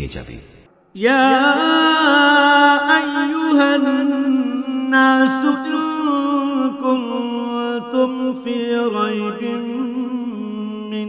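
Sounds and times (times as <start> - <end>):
man chanting melodic recitation: 1.0 - 11.0.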